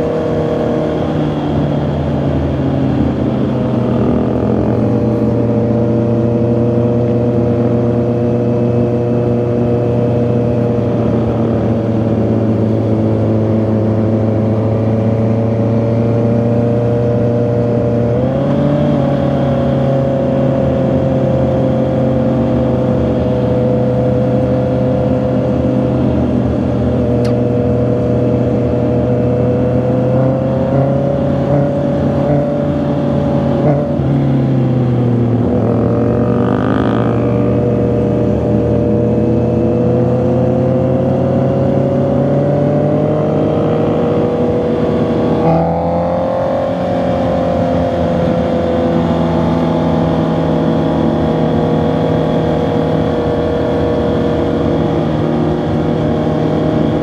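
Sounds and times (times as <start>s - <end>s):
motorcycle engine and exhaust: 0.0s - 57.0s.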